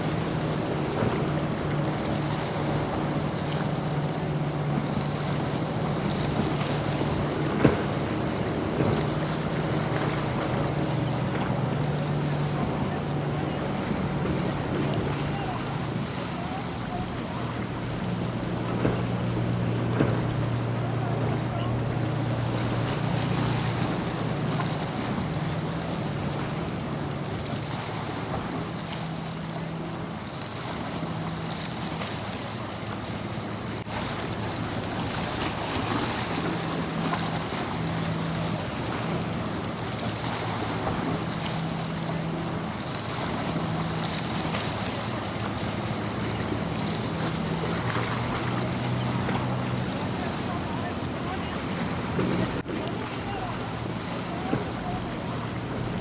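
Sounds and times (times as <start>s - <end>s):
boat engines droning: 0.0s - 56.0s
surf: 0.0s - 56.0s
wind: 0.0s - 56.0s.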